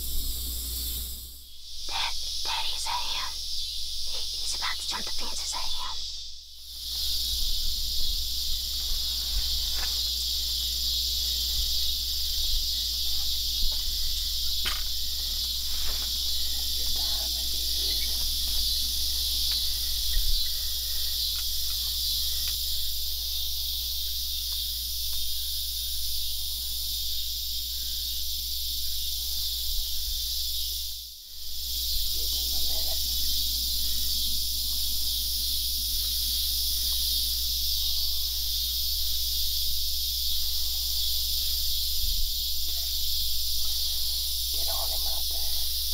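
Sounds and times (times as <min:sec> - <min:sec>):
high-pitched insect chorus: 0:00.0 - 0:45.9.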